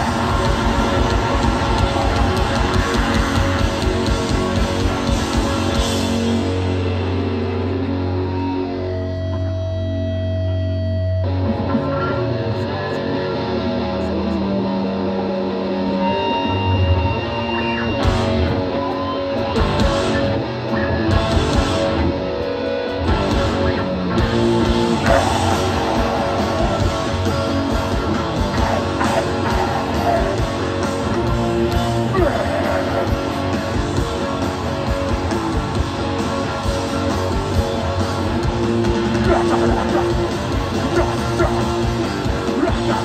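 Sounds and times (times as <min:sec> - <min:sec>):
punk band playing live: 0:00.0 - 0:43.0.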